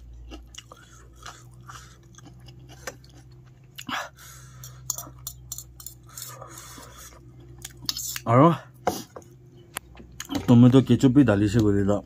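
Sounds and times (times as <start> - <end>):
person chewing noodles: 0.0 - 10.4
faint steady hum: 0.0 - 12.0.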